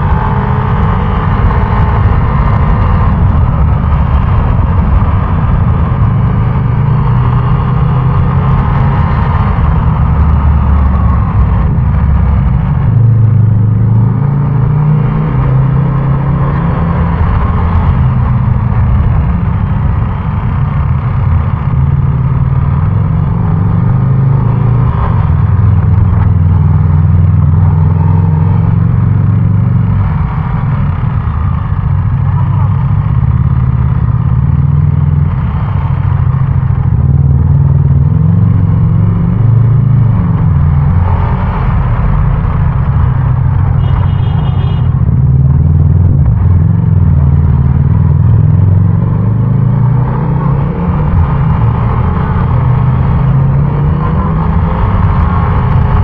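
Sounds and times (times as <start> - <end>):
traffic noise: 0.0 - 56.0.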